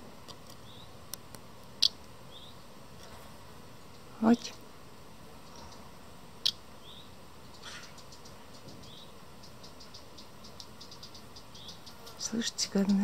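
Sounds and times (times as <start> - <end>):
fledgling birds chirping: 0.5 - 1.1, 1.7 - 2.8, 3.6 - 13.0.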